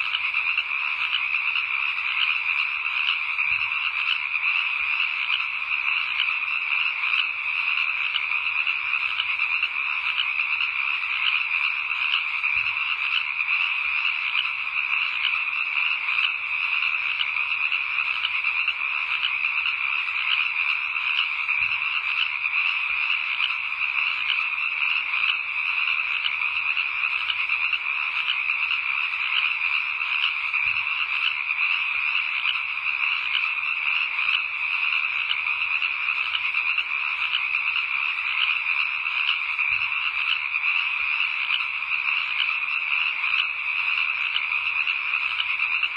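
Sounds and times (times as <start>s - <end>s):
chorus of calling animals: 0.0s - 45.9s.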